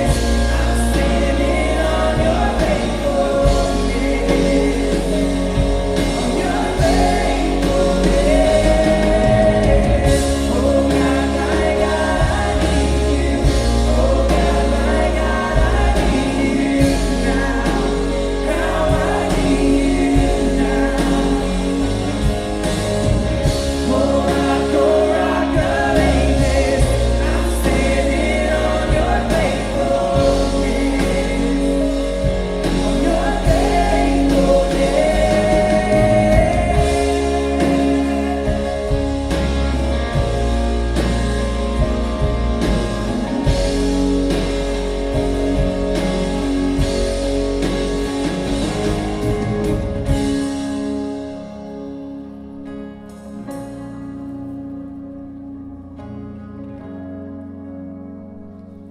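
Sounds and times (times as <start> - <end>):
voices singing together: 0.0 - 49.5
worship band playing: 0.0 - 58.9.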